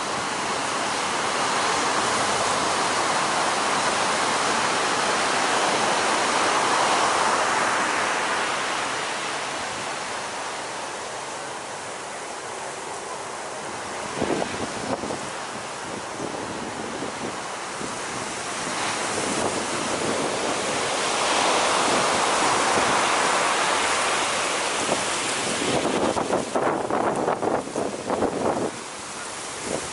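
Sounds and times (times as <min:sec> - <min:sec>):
heavy ocean surf roaring: 0:00.0 - 0:29.9.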